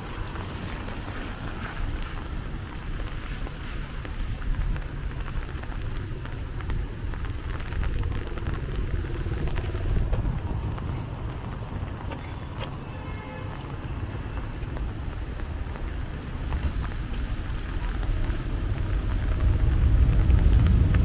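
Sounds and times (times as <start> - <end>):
rain patter: 0.0 - 12.8, 13.4 - 21.0
low street rumble: 0.0 - 21.0
footsteps: 0.4 - 20.5.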